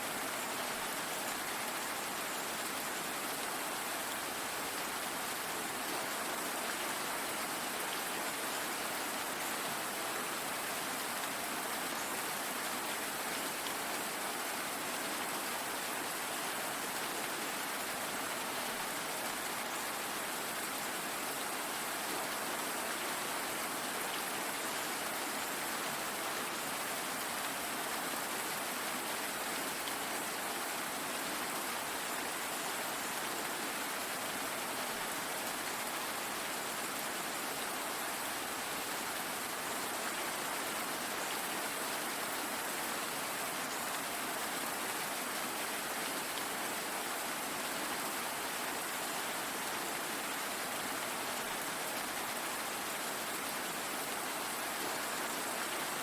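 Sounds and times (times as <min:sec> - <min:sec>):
rain falling on a surface: 0:00.0 - 0:56.0.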